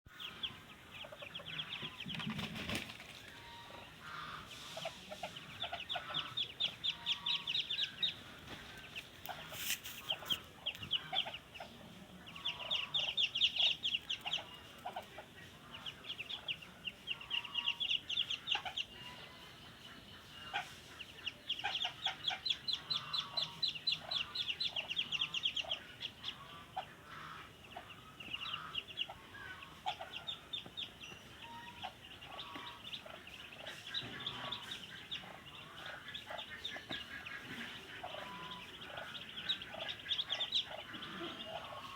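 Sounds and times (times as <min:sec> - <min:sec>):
ducklings peeping: 0:00.1 - 0:41.9.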